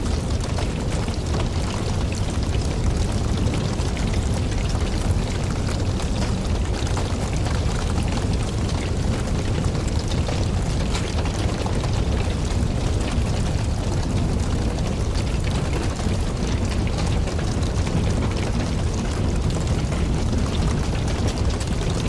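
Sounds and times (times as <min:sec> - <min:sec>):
campfire flames rumbling: 0:00.0 - 0:22.0
logs crackling and popping: 0:00.0 - 0:22.0.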